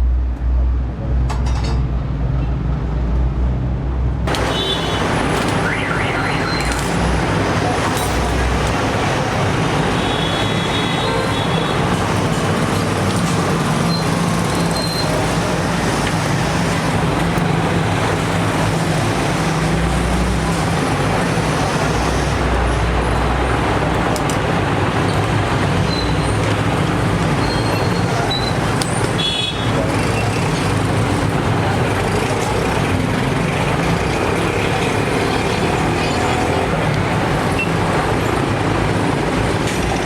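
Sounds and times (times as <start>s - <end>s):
road traffic engine hum: 0.0s - 40.0s.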